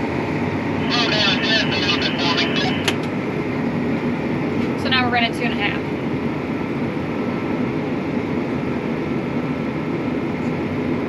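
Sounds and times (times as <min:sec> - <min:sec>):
tractor engine drone from cab: 0:00.0 - 0:11.0.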